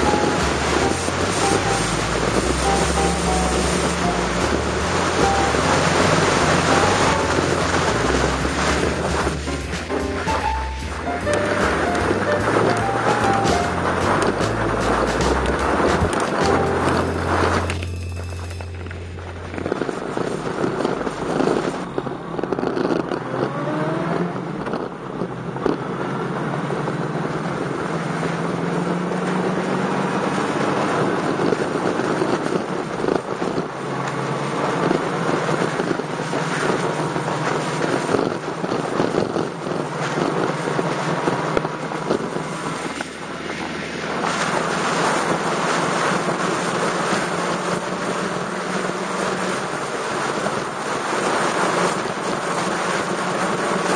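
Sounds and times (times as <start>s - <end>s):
motorcycle engine cruising: 0.0s - 50.7s.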